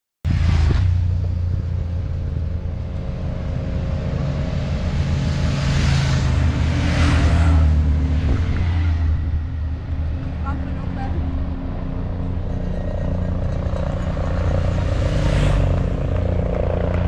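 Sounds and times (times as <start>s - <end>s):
motorcycle engine drone: 0.2s - 17.0s
motorcycles rushing past: 0.3s - 17.0s.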